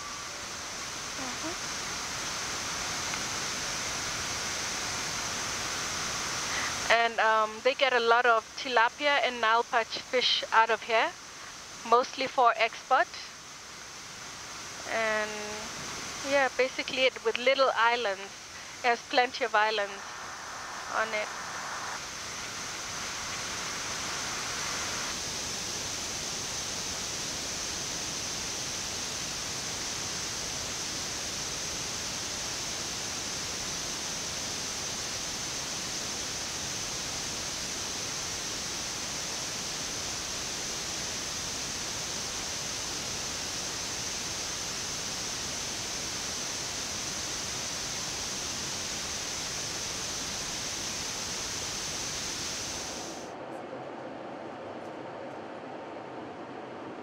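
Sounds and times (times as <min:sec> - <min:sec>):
thin high hiss: 0:00.0 - 0:53.3.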